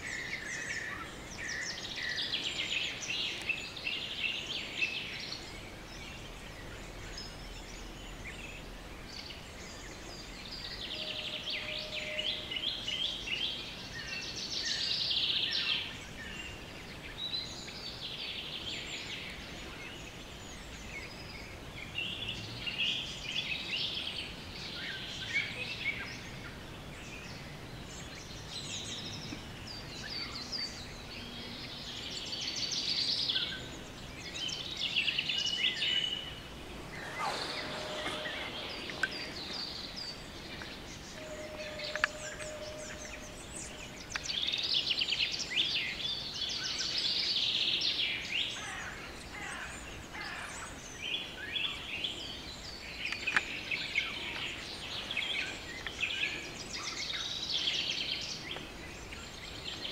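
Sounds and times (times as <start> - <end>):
faint steady background hiss: 0.0 - 59.9
songbirds singing: 0.0 - 59.9.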